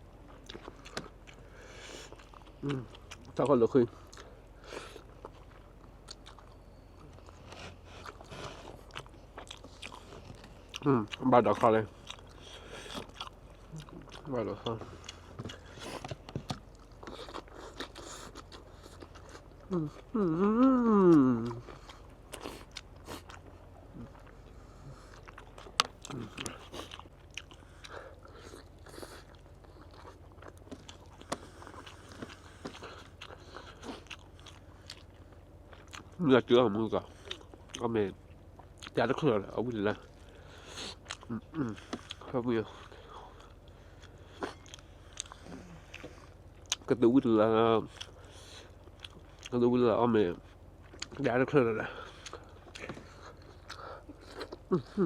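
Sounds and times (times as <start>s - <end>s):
person chewing food: 0.0s - 49.6s, 50.3s - 55.0s
low steady hum: 0.0s - 55.0s.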